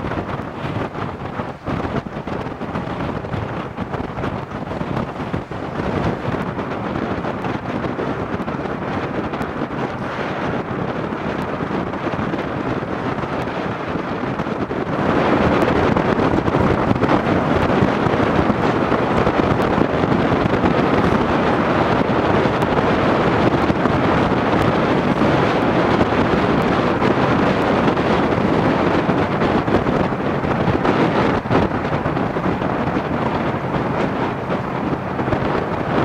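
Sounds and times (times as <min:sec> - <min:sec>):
wind buffeting the microphone: 0:00.0 - 0:36.0.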